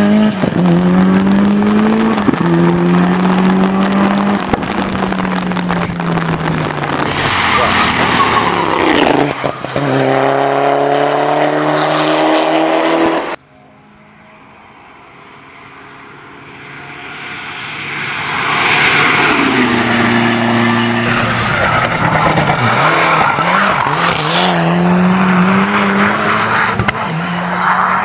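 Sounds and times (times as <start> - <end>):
race car engine at full throttle: 0.0 - 28.0.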